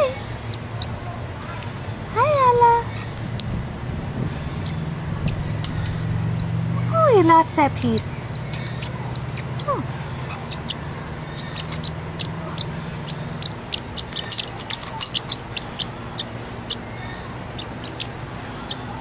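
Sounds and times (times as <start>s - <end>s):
parrotlet chirping: 0.0s - 1.8s, 4.3s - 6.5s, 7.5s - 19.0s
steady low hum: 0.0s - 19.0s.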